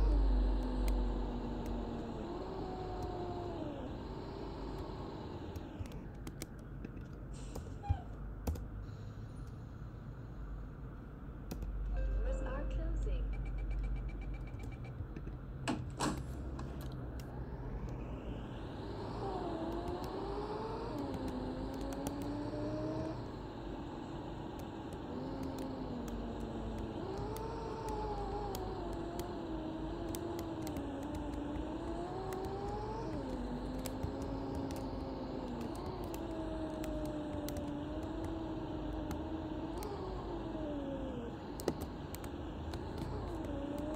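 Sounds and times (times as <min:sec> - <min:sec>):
bus drivetrain whine: 0:00.0 - 0:43.9
engine and road rumble: 0:00.0 - 0:43.9.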